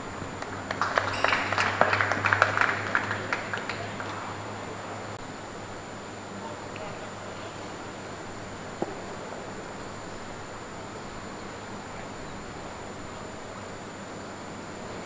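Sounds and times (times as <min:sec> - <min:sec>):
faint thin high whine: 0:00.0 - 0:15.0
wind-like outdoor hiss: 0:00.0 - 0:15.0.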